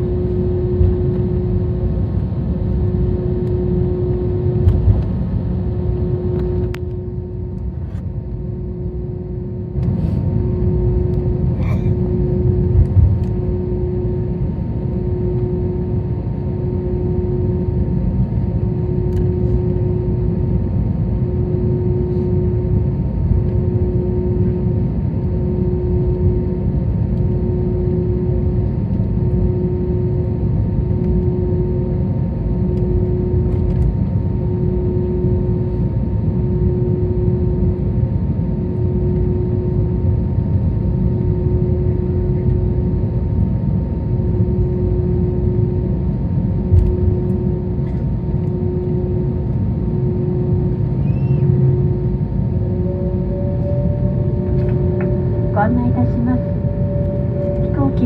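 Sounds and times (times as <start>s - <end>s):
aircraft engines idling rumble: 0.0s - 58.0s
low tone: 0.0s - 58.0s
steady cabin hum: 0.0s - 58.0s.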